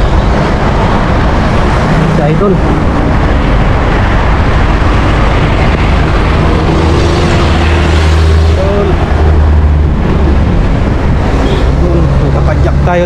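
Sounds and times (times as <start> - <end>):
vehicle engine drone: 0.0 - 13.0
wind rush on camera: 0.0 - 13.0.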